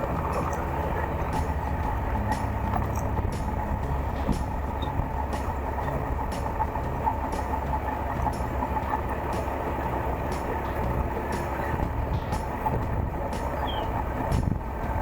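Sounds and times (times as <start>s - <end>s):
motorcycle engine drone: 0.0s - 15.0s
wind rumble on microphone: 0.0s - 15.0s.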